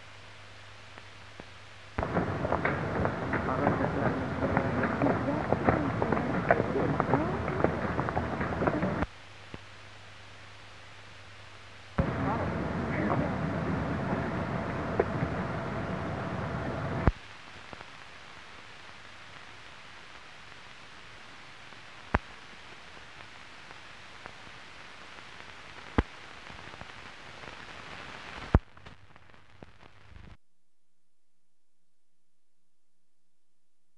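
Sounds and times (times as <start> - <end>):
film soundtrack hiss: 0.0 - 30.4.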